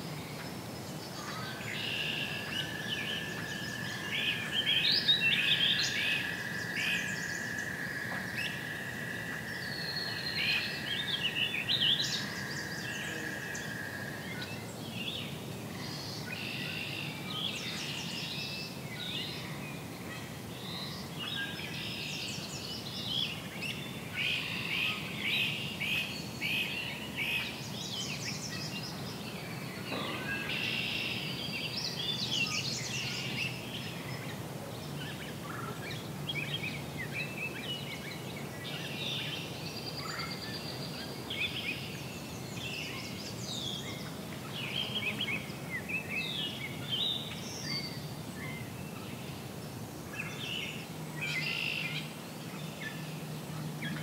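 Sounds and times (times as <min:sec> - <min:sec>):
songbirds singing and chirping: 0:00.1 - 0:54.0.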